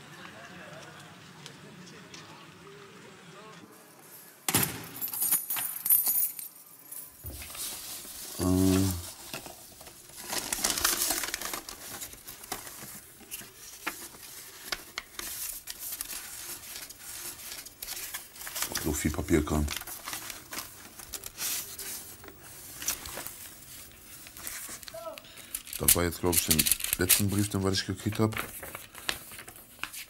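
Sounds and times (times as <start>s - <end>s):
rustling and clinking handling: 4.8s - 30.0s.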